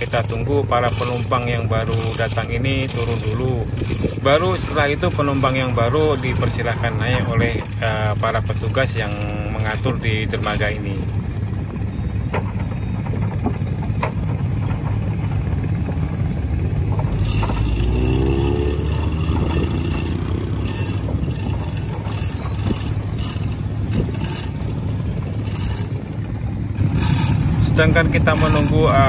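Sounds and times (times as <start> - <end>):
low engine rumble: 0.0 - 29.0
motor scooter engine rising: 1.0 - 29.0.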